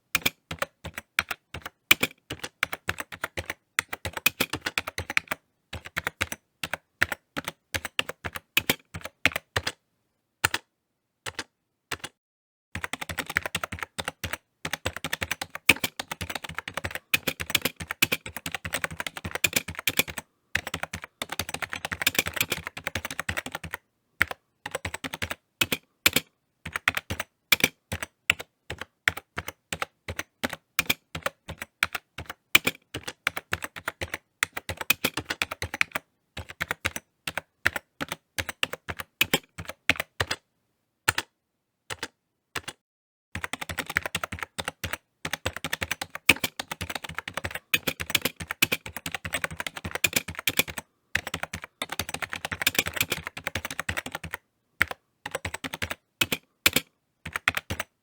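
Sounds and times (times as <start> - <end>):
typing on computer keyboard: 0.0 - 9.8, 10.4 - 10.7, 11.3 - 12.2, 12.8 - 40.4, 41.1 - 41.3, 41.9 - 42.8, 43.4 - 58.0.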